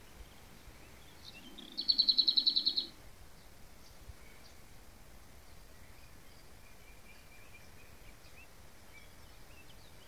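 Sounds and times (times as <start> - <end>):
faint bird chirps: 0.0 - 4.7, 5.4 - 10.0.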